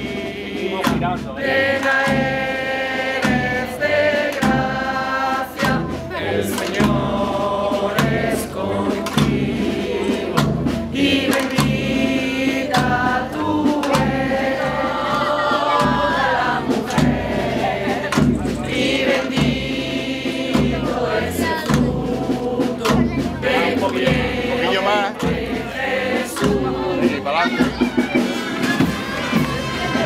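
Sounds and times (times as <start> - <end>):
choir singing: 0.0 - 30.0
low accompaniment: 0.0 - 30.0.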